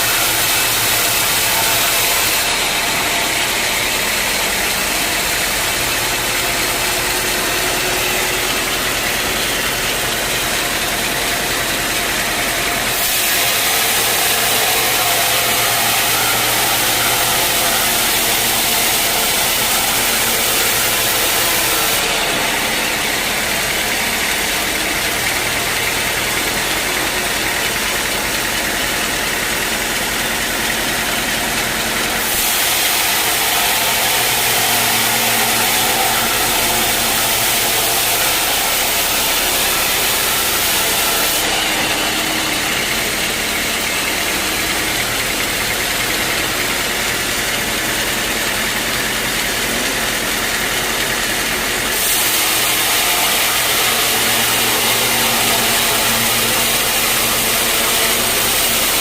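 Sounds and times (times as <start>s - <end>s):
motor hum: 0.0s - 59.0s
saw cutting logs: 0.0s - 59.0s.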